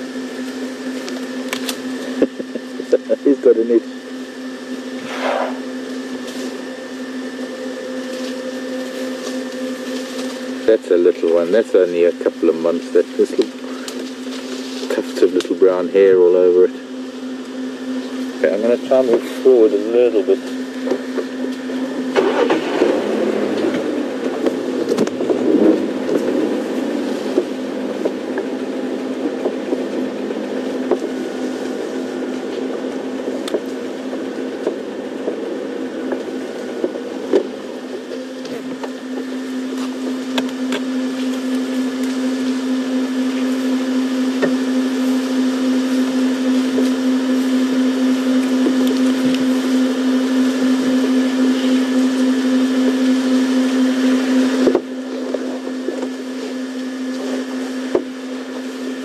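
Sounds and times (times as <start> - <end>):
vehicle engine low revs: 0.0 - 59.0.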